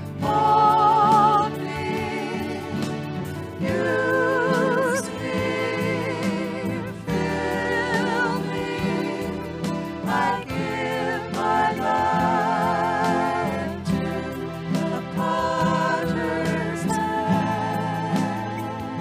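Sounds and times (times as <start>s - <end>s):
instrumental accompaniment: 0.0s - 19.0s
voices singing with vibrato: 0.0s - 19.0s.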